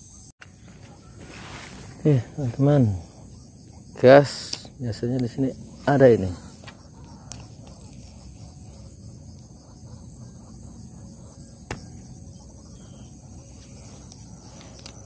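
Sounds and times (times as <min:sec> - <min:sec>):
crickets and insects chirring: 0:00.0 - 0:15.0.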